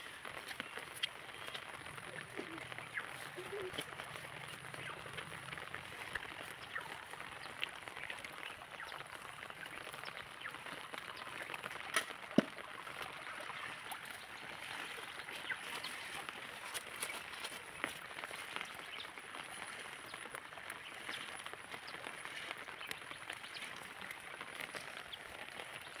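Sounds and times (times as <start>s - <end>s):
foliage rustling: 0.0s - 26.0s.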